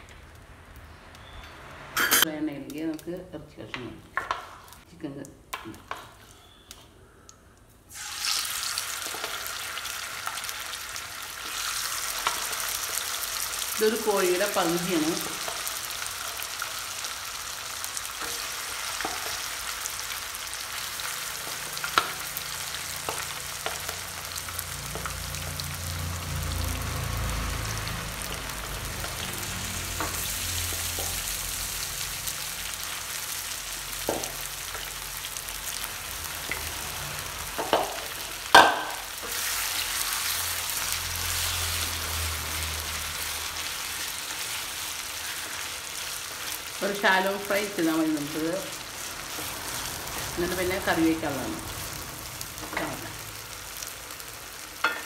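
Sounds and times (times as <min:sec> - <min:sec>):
chicken sizzling in hot oil: 0:07.9 - 0:55.0.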